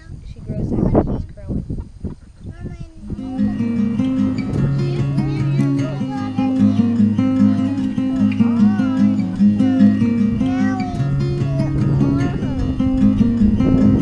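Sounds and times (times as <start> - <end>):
acoustic guitar strumming: 2.6 - 14.0.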